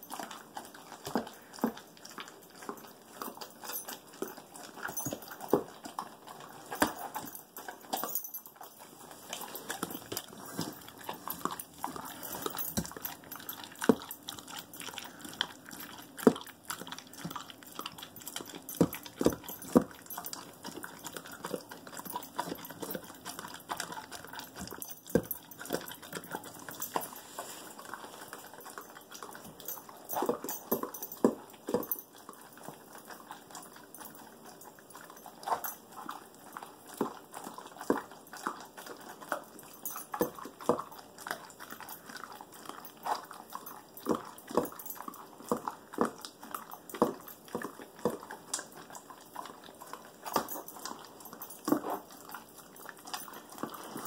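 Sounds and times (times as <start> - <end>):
dog chewing and lapping: 0.0 - 54.0.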